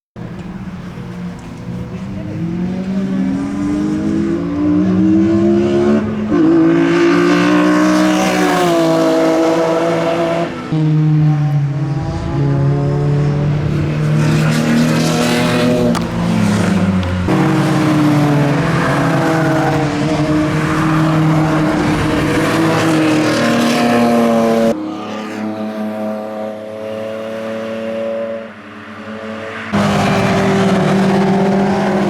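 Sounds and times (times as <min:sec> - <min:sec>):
car engine accelerating hard: 0:00.3 - 0:28.6, 0:29.4 - 0:32.0.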